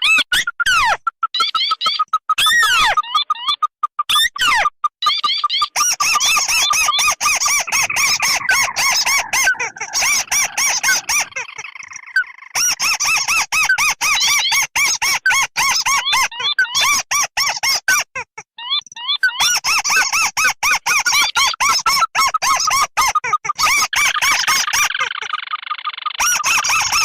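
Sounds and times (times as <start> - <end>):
rapid squeaky crake calls: 0.0 - 27.0.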